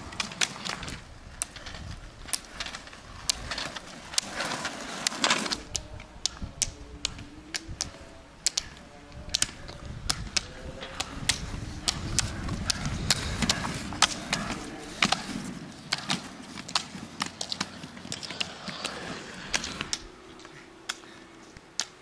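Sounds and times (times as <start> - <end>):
roller-ski wheels rumbling: 0.0 - 21.4
ski pole tips clicking on asphalt: 0.0 - 22.0.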